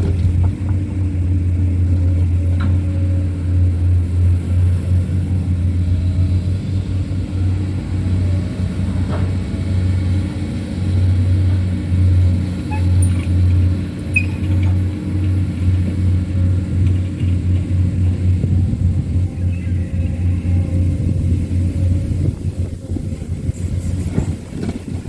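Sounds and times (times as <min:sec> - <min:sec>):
excavator diesel engine rumbling: 0:00.0 - 0:25.0.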